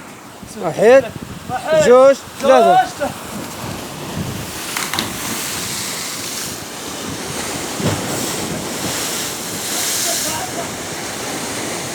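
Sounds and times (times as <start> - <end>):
waves surging and breaking: 0.0 - 11.9
wind buffeting microphone: 0.0 - 11.9.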